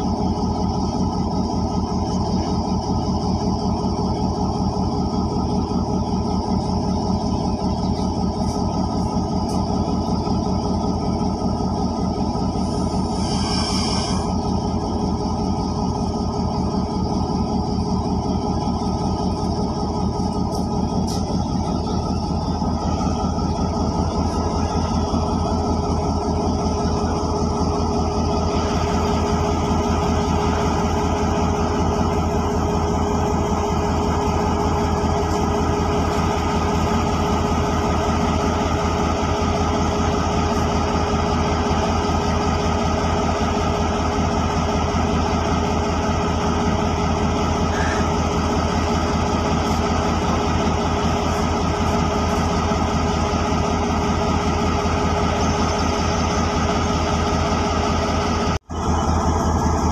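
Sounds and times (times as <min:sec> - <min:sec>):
locomotive engine idling: 0:00.0 - 0:59.9
steady whine: 0:00.0 - 0:59.9.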